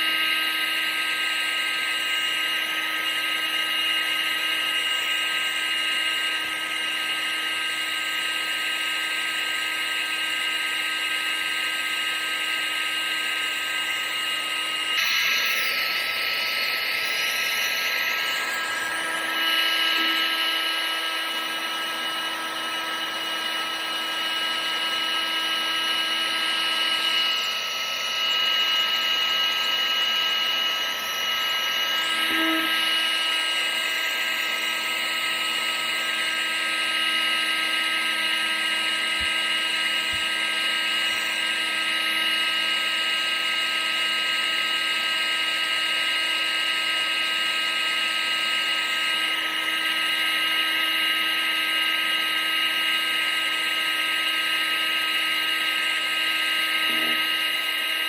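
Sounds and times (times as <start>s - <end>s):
electric fan motor whining: 0.0s - 58.0s.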